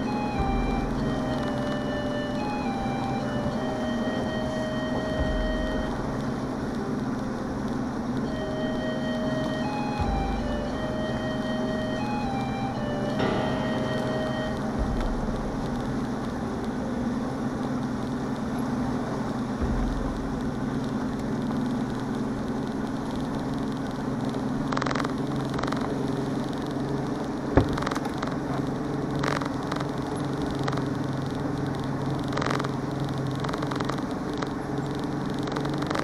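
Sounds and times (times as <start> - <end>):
outboard motor running: 0.0 - 36.0
water and hull noise: 0.0 - 36.0.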